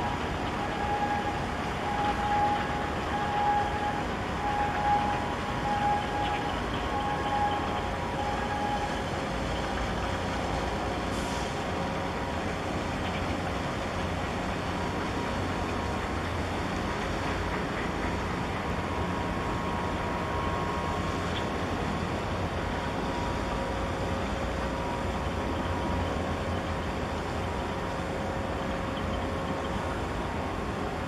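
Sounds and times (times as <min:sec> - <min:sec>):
ship engine low rumble: 0:00.0 - 0:31.0.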